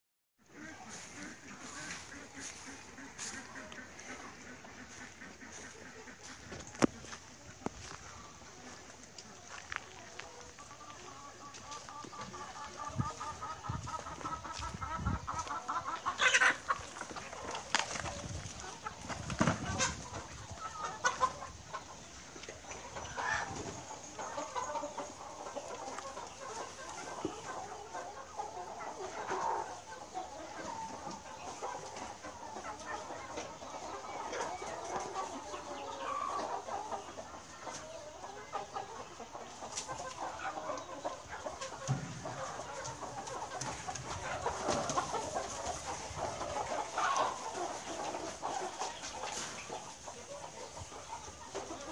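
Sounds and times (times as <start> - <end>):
chickens clucking: 0.4 - 51.9.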